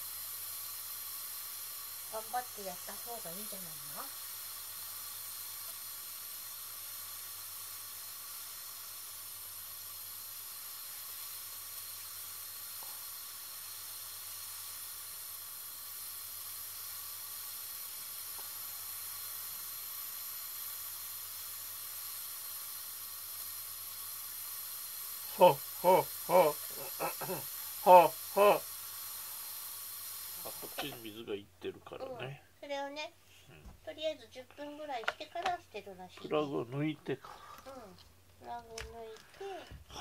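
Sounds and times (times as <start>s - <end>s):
facial steam inhaler hissing: 0.0s - 31.3s, 33.9s - 40.0s.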